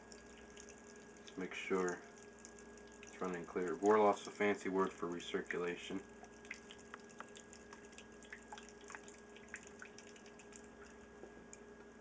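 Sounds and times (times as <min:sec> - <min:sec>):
liquid dripping into a pitcher: 0:00.0 - 0:12.0
steady low hum: 0:00.0 - 0:12.0.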